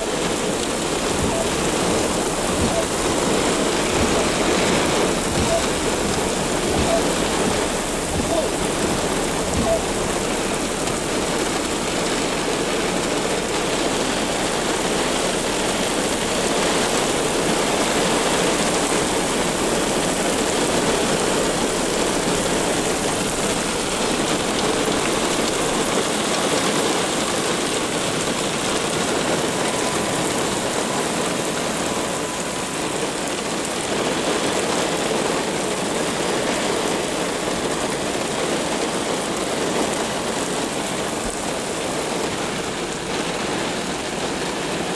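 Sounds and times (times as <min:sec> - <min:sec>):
heavy rain pouring onto pavement: 0:00.0 - 0:44.9.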